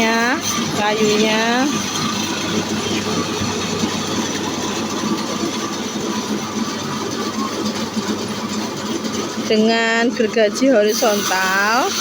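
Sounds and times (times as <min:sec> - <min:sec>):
band sawmill cutting a log: 0:00.0 - 0:12.0.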